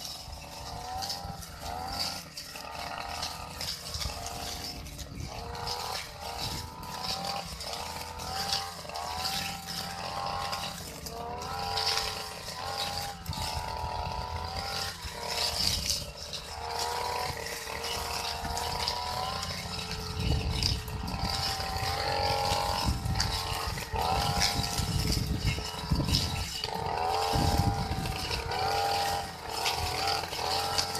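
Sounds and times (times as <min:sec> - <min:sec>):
brush cutter engine running: 0:00.0 - 0:30.9.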